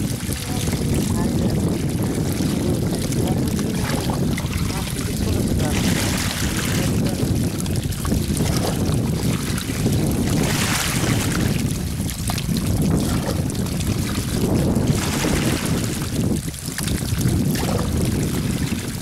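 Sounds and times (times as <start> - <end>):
water rushing through basket: 0.0 - 19.0
wind on microphone: 0.0 - 19.0.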